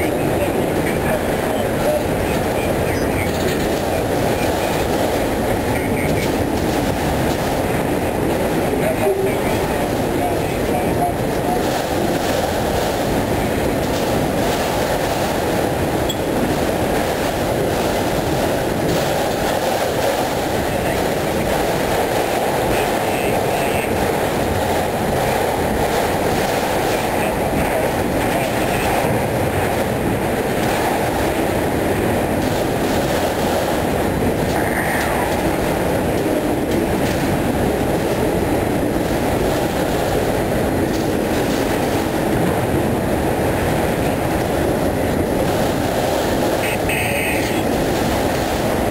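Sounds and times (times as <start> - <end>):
train wheels running on rails: 0.0 - 48.9.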